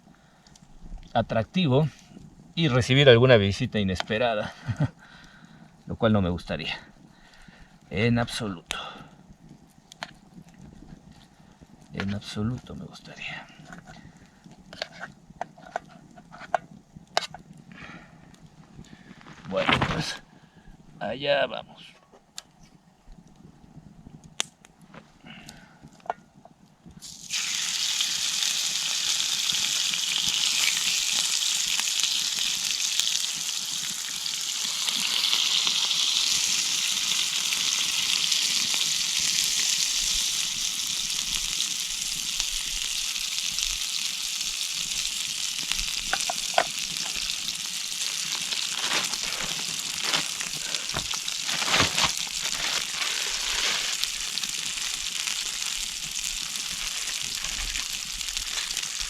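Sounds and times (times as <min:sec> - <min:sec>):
meat sizzling over embers: 0:00.0 - 0:59.0.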